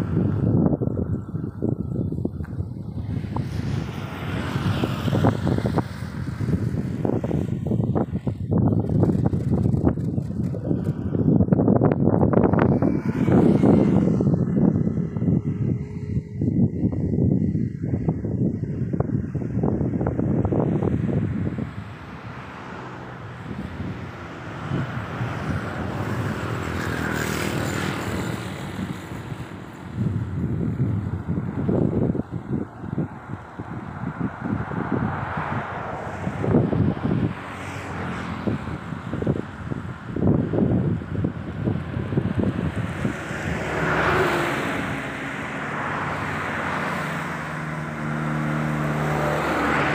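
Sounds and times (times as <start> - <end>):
steady engine hum: 0.0 - 49.9
vehicle passing: 0.0 - 49.9
wind on microphone: 0.0 - 49.9.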